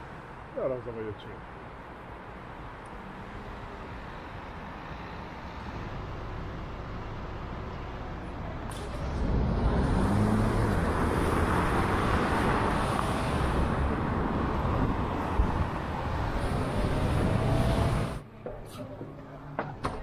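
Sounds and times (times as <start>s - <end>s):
road traffic roar: 0.0s - 20.0s
engines passing: 2.7s - 20.0s.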